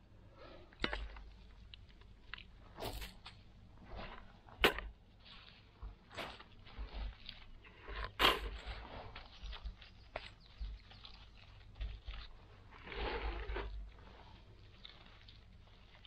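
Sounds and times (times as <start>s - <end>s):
earth scraping and rustling: 0.4s - 16.0s.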